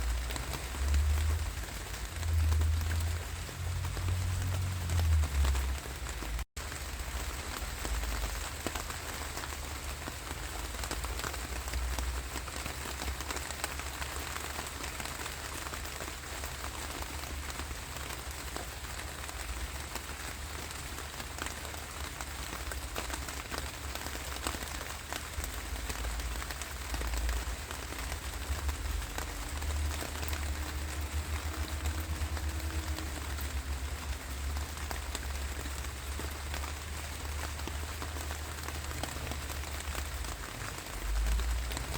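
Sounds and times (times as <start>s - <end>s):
steady rain patter: 0.0s - 41.9s.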